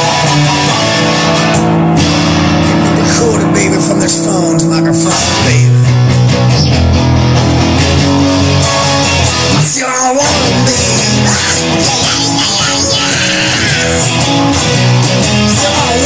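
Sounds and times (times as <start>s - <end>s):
rock song with electric guitar: 0.0s - 16.0s.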